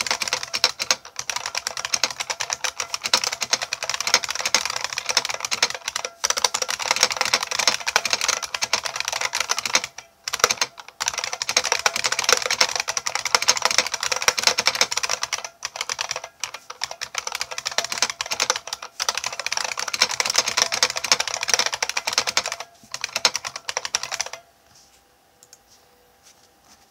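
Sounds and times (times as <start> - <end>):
keyboard keys clicking: 0.0 - 24.4.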